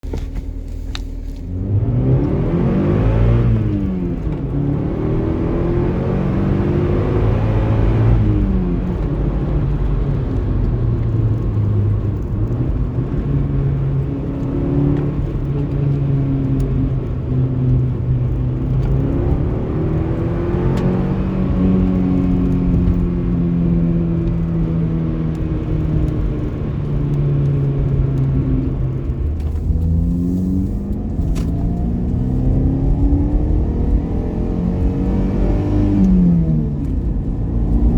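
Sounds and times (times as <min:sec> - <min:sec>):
car engine revving: 0:00.8 - 0:37.9.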